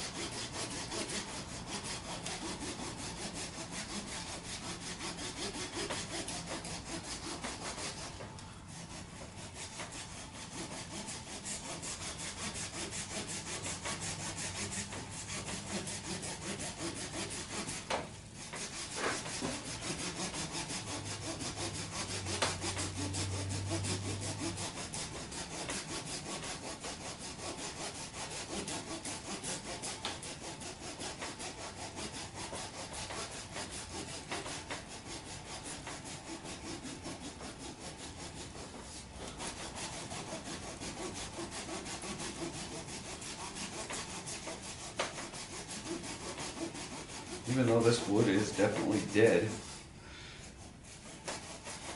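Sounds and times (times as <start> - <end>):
hand saw cutting wood: 0.0 - 51.9.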